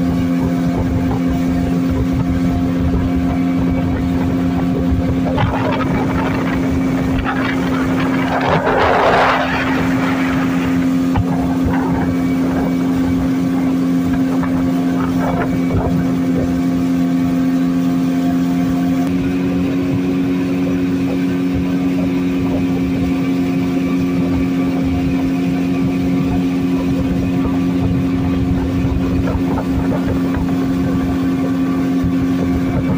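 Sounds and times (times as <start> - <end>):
outboard motor droning: 0.0 - 32.9
water rushing beneath boat: 0.0 - 32.9.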